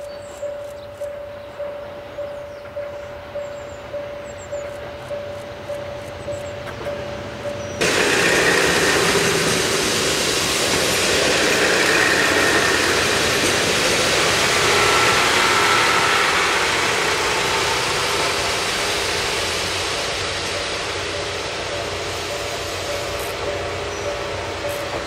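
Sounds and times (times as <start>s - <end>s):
diesel train running: 0.0s - 25.0s.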